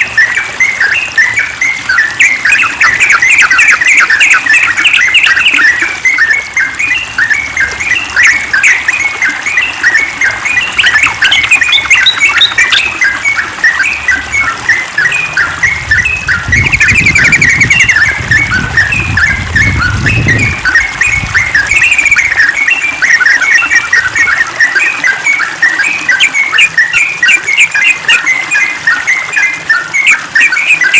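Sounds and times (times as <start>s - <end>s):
bird singing chattering notes: 0.0s - 30.9s
bird trill: 0.0s - 30.9s.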